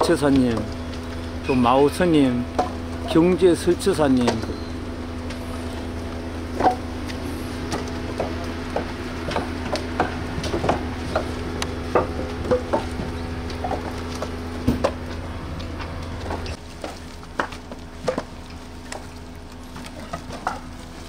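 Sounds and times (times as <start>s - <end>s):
steady low hum: 0.0s - 21.0s
wooden logs knocking together: 0.0s - 21.0s.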